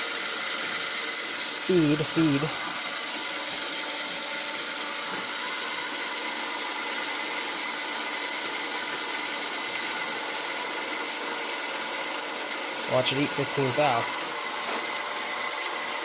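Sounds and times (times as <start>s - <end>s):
lathe running: 0.0s - 16.0s.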